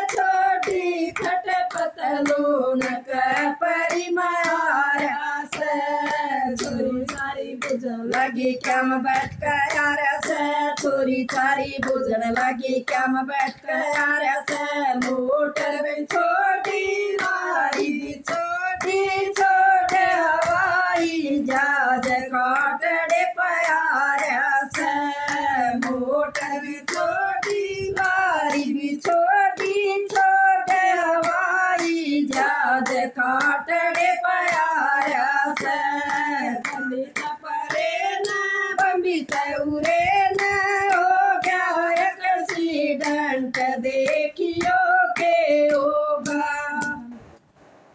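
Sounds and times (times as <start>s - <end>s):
women singing together: 0.0s - 47.2s
hand clapping: 0.0s - 47.5s.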